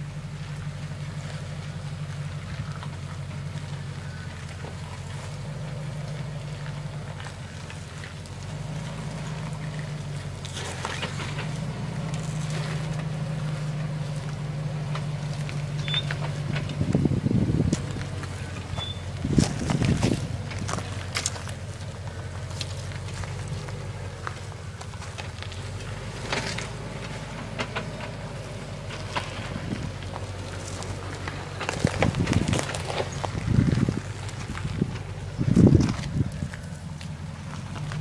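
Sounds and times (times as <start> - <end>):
four-wheel drive engine running: 0.0 - 38.0.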